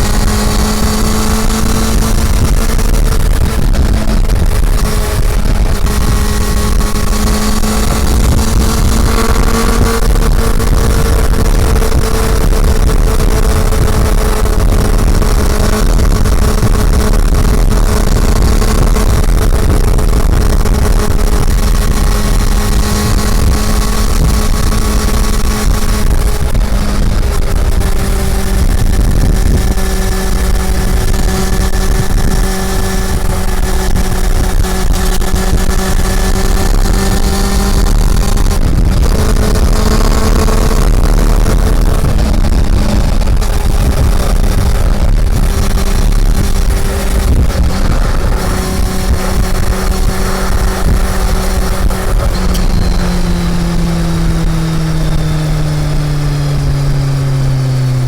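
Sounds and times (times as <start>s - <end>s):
heavy low rumble: 0.0s - 58.0s
motorcycle engine running: 0.0s - 58.0s.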